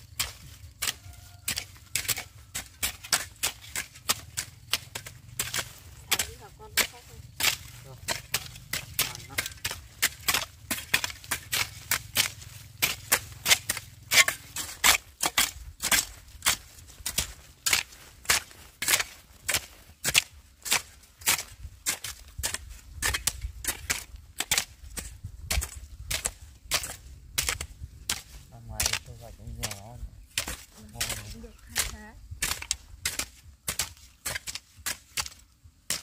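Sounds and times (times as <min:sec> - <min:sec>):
hand tool striking wood: 0:00.1 - 0:36.0.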